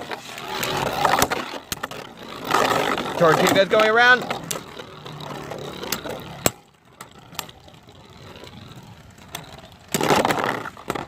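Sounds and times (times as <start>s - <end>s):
spinning tops whirring: 0.0s - 11.0s.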